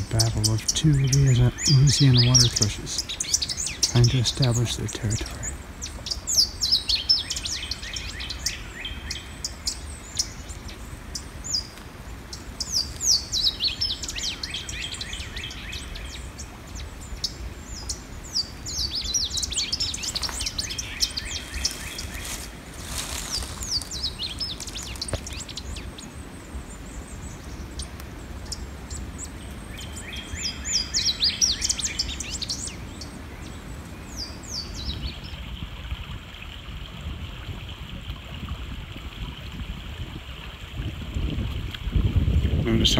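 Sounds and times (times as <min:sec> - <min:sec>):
birds singing: 0:00.0 - 0:35.8, 0:42.0 - 0:42.9
creek rushing: 0:00.0 - 0:42.9.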